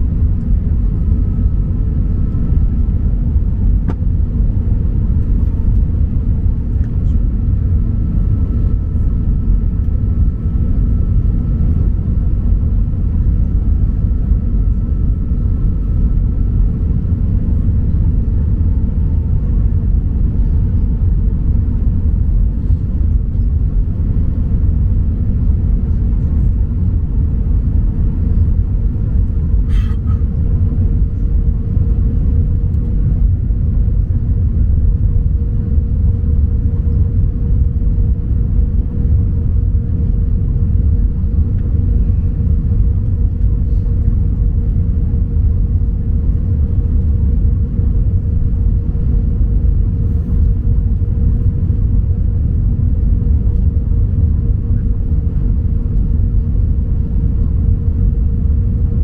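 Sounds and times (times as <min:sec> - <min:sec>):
airliner cabin rumble: 0:00.0 - 0:59.0
mid-pitched hum: 0:00.0 - 0:59.0.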